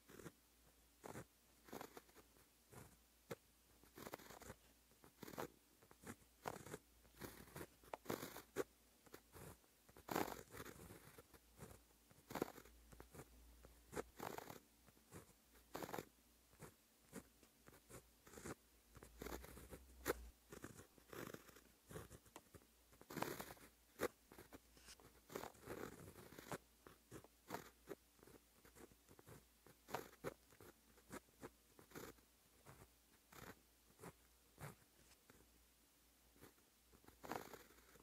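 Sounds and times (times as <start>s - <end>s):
pen scratching on paper: 0.0s - 0.4s, 1.0s - 35.4s.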